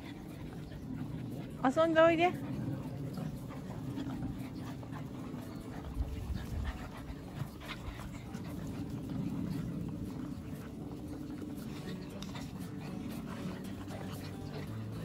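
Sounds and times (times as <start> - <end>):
dog panting: 0.0 - 15.0
puppies scrambling: 0.0 - 15.0.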